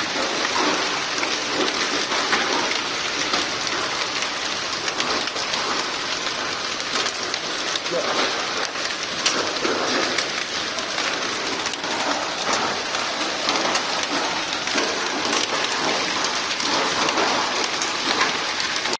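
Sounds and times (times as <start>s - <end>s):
hail pattering on rooftop: 0.0s - 18.9s
hailstones clicking: 0.0s - 18.9s.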